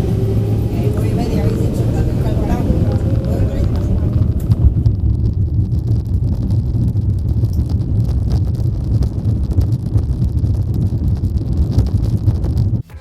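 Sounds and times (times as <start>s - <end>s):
aircraft cabin low rumble: 0.0s - 10.4s, 11.2s - 13.0s
microphone wind buffeting: 0.0s - 13.0s.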